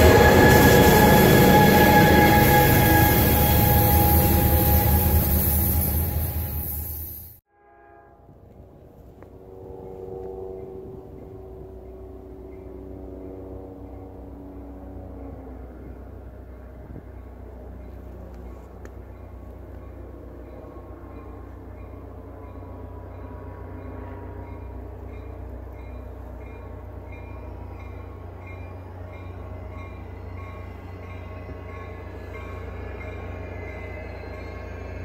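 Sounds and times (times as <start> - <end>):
train rumbling: 0.0 - 7.4, 8.3 - 35.0.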